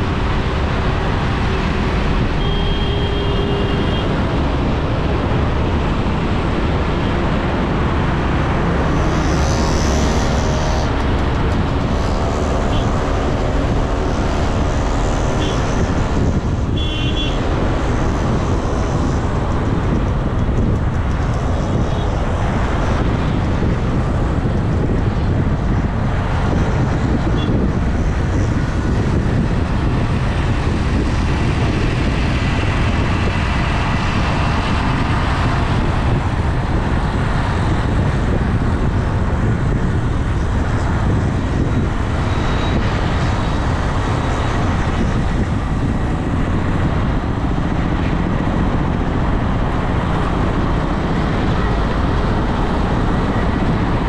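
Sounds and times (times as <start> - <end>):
road and traffic noise: 0.0 - 54.0.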